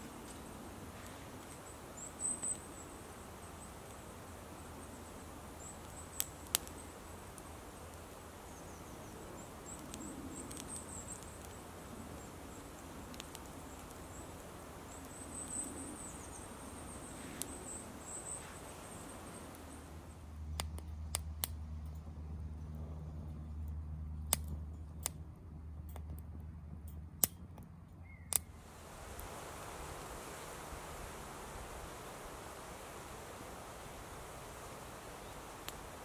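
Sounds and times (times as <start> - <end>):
wood fire crackling: 0.0 - 21.6, 28.3 - 36.0.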